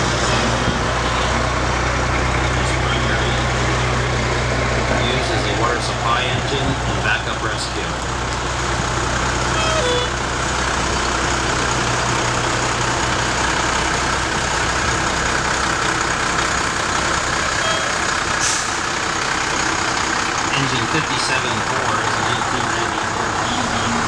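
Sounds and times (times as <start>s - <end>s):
fire engine diesel engine: 0.0s - 24.0s.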